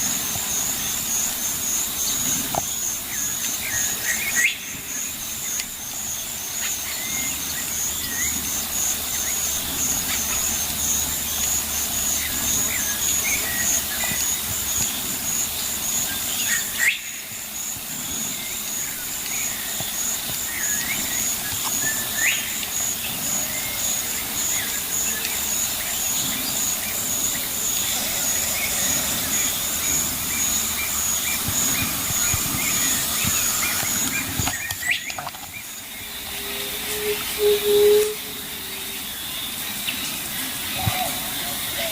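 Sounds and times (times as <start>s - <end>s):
birds chirping: 0.0s - 41.9s
insects trilling: 0.0s - 41.9s.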